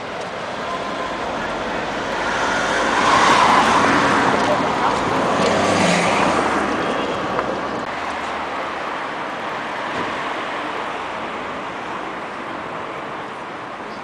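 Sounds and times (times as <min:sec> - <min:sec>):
traffic hiss and rumble: 0:00.0 - 0:14.0.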